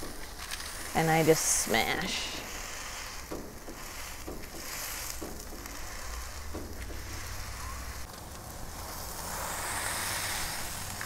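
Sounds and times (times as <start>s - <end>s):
meat sizzling on griddle: 0.0s - 11.0s
parchment paper rustling: 0.0s - 11.0s.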